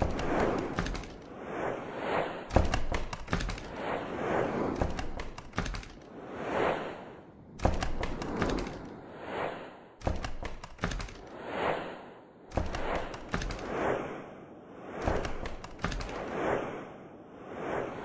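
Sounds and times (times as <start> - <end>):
whooshes: 0.0 - 18.0.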